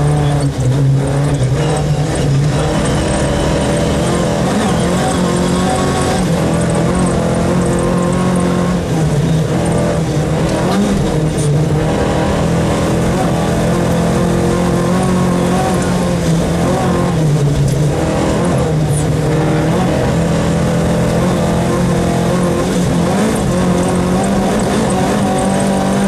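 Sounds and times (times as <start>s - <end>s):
rally car engine revving: 0.0s - 26.0s
tyre road noise: 0.0s - 26.0s.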